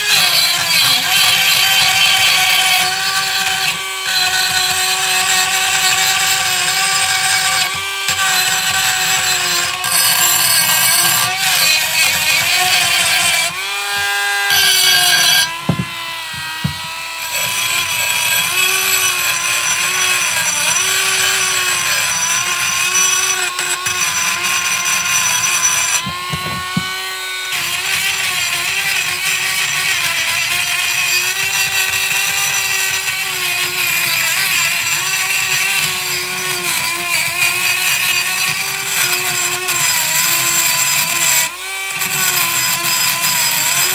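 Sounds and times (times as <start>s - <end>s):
rotary tool grinding metal: 0.0s - 43.9s.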